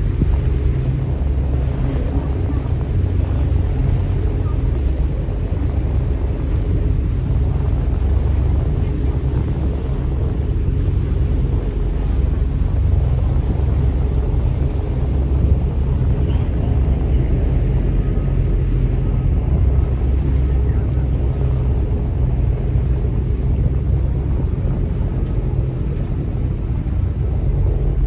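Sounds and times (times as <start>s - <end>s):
boat engine droning: 0.0s - 28.0s
wind on microphone: 0.0s - 28.0s.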